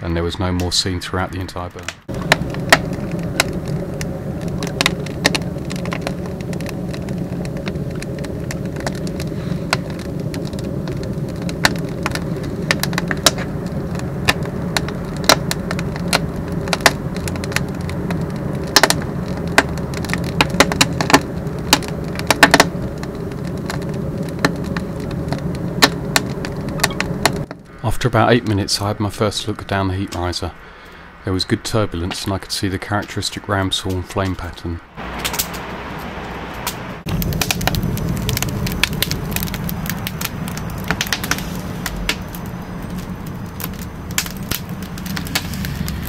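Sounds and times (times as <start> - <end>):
low rumble of fire drawing: 0.0 - 46.0
wood crackling and popping: 0.0 - 46.0.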